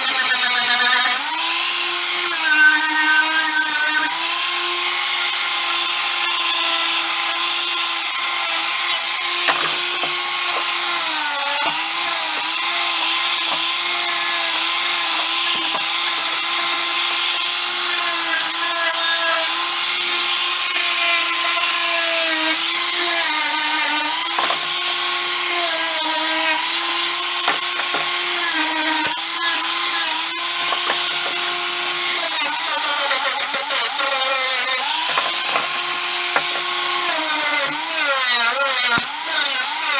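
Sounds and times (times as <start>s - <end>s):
power tool grinding: 0.0s - 39.9s.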